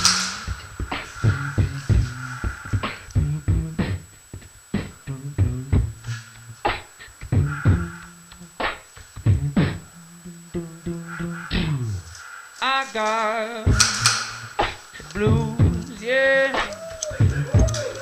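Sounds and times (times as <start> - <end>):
electronic beat music: 0.0 - 12.1, 13.2 - 18.0.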